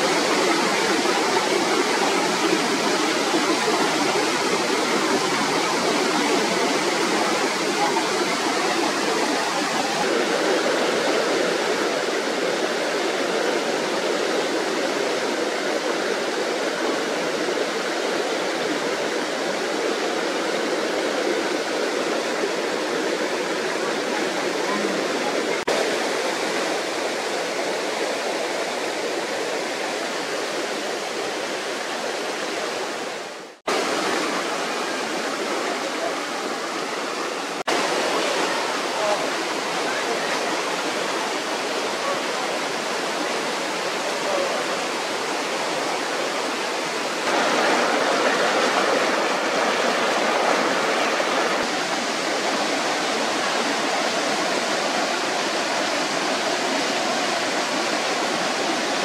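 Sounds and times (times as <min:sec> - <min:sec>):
stream rushing over stones: 0:00.0 - 0:59.0.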